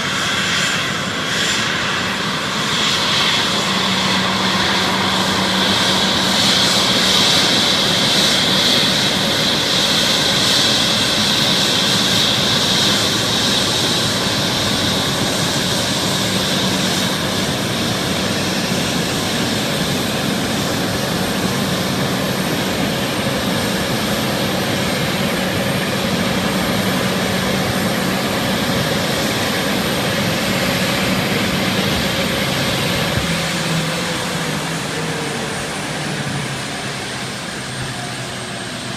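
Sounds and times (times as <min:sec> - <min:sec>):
airplane engines running: 0:00.0 - 0:38.9
high engine whine: 0:00.0 - 0:38.9.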